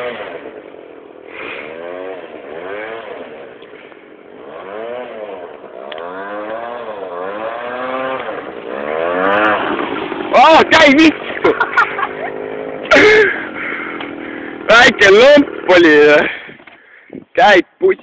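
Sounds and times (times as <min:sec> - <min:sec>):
scooter engine revving: 0:00.0 - 0:16.9.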